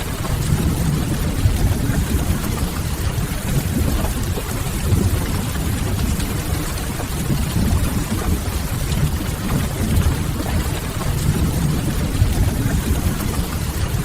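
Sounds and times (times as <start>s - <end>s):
rain hissing: 0.0s - 14.0s
deep low rumble: 0.2s - 14.0s.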